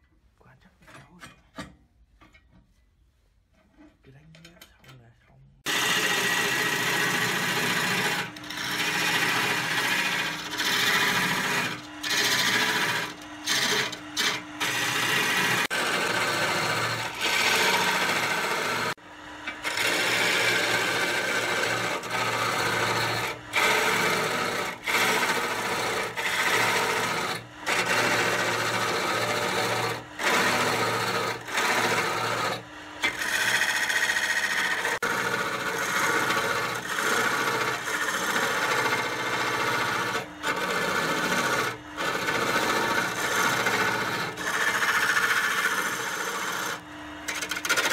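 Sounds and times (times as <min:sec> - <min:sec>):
faint motor hum: 0:00.1 - 0:47.9
turning tool scraping spinning wood: 0:05.6 - 0:47.9.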